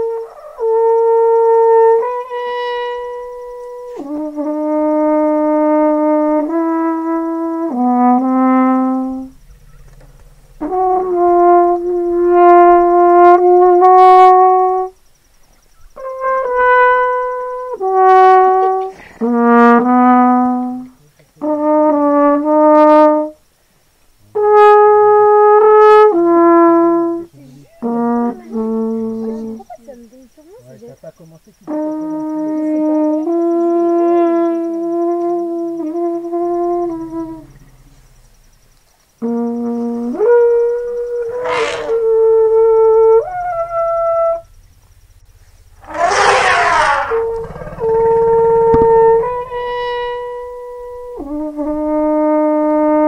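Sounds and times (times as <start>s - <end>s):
slow brass melody: 0.0s - 15.0s, 15.9s - 23.5s, 24.2s - 29.7s, 31.6s - 38.3s, 39.2s - 44.6s, 45.7s - 53.0s.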